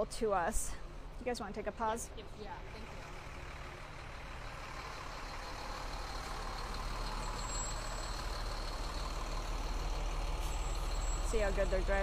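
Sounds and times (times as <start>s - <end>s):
fire truck engine rumbling: 0.0s - 12.0s.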